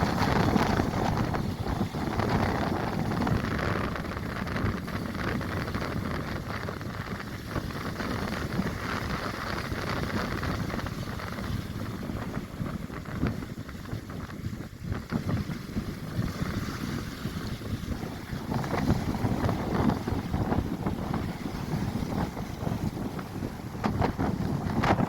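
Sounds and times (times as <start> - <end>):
rough sea: 0.0 - 25.0
storm wind gusting on microphone: 0.0 - 25.0.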